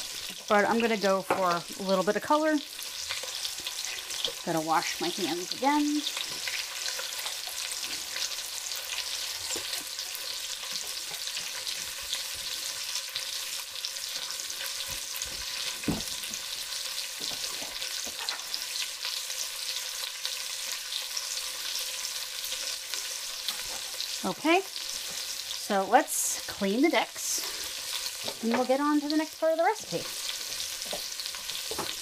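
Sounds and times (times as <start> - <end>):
vegetables sizzling in a pan: 0.0 - 32.0.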